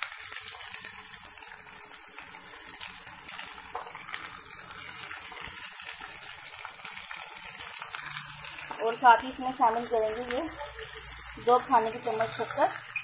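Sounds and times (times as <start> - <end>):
nuts sizzling in hot oil: 0.0 - 13.0.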